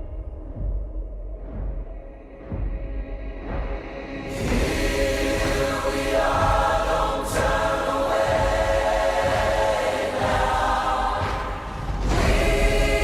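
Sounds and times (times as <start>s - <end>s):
wordless choir singing: 2.5s - 13.0s.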